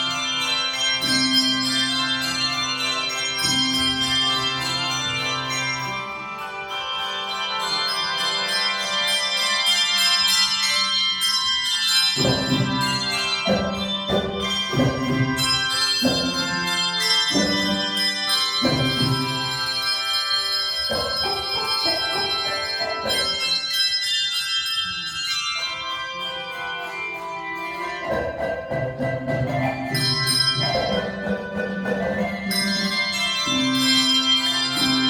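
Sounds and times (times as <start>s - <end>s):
handbells playing a tune: 0.0s - 35.0s.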